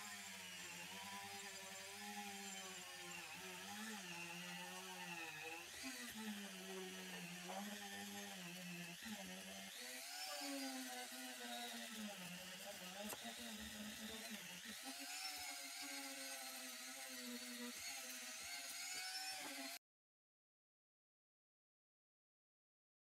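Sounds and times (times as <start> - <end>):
rotary tool sanding metal: 0.0 - 19.8.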